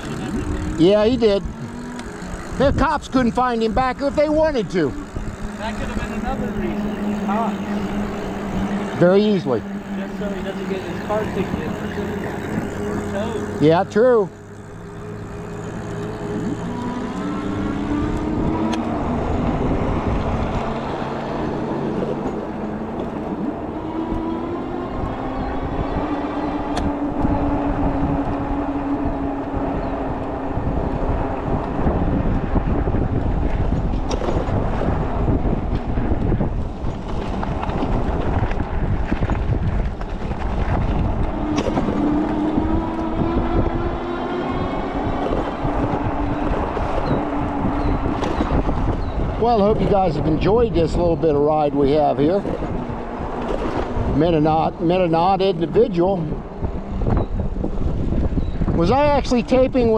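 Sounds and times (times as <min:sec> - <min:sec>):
electric bike motor whining: 0:00.0 - 0:59.9
wind on microphone: 0:00.0 - 0:59.9.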